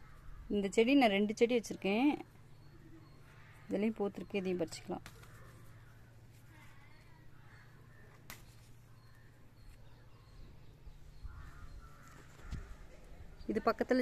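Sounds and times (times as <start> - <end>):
distant bird calls: 0.0 - 14.0.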